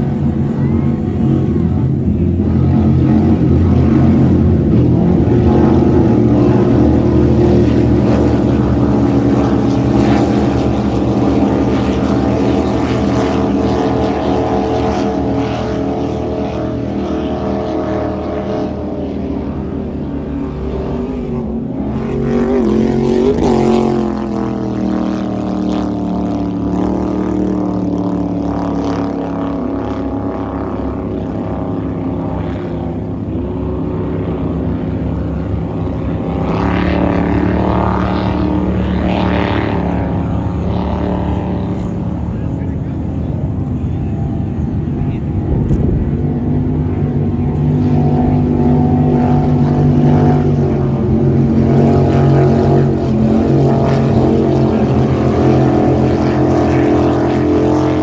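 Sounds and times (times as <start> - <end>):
powerboat engines droning: 0.0 - 58.0.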